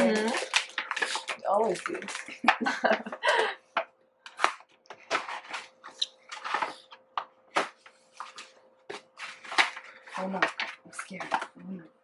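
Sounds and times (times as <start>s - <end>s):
paper wrapping rustling and crackling: 0.0s - 2.9s, 4.3s - 11.8s.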